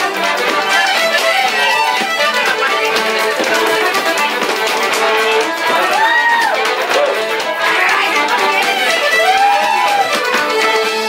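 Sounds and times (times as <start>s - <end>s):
dance steps tapping on floor: 0.0s - 11.0s
fiddle playing dance tune: 0.0s - 11.0s.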